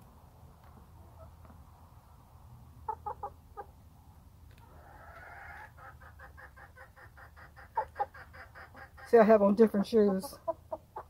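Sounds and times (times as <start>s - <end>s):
hens clucking: 0.6s - 3.8s, 4.5s - 11.0s.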